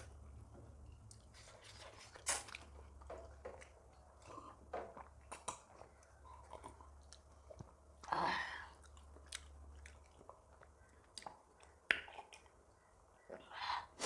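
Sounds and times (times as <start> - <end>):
low electrical hum: 0.0 - 14.0
chewing and biting food: 0.9 - 12.6.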